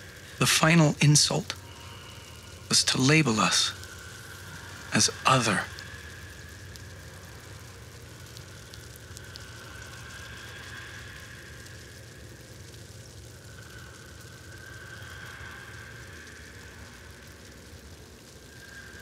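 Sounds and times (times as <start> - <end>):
faint high hum: 0.0 - 19.0
low mechanical rumble: 1.4 - 19.0.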